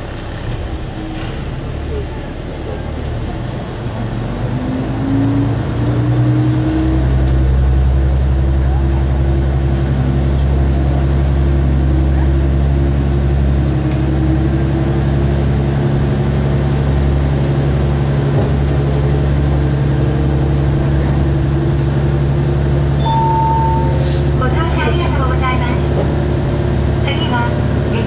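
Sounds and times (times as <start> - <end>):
rail running noise: 0.0 - 28.0
railcar engine drone: 0.0 - 28.0.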